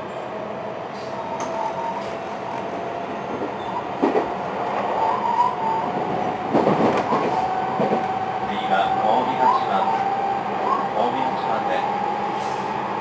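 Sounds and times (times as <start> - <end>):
rumble of wheels on rail: 0.0 - 13.0
steady train whine: 0.0 - 13.0.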